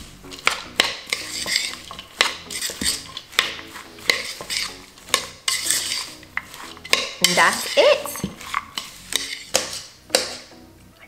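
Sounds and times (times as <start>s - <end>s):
shredded cabbage rustling: 0.0s - 9.9s.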